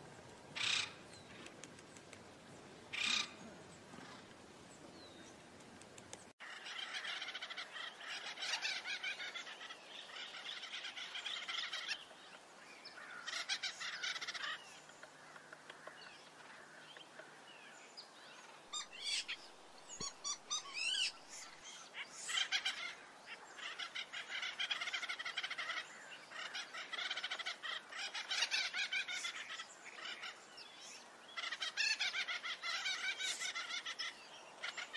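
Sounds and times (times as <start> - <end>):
woodpeckers calling: 0.5 - 12.1, 13.0 - 17.3, 18.3 - 34.9.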